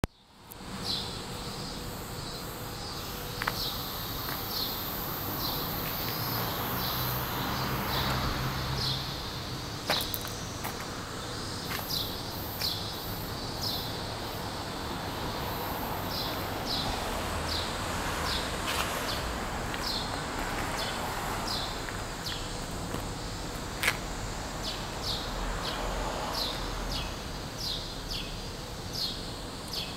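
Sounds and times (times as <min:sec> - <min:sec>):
high-pitched insect hiss: 0:00.2 - 0:29.9
distant traffic hum: 0:00.3 - 0:29.9.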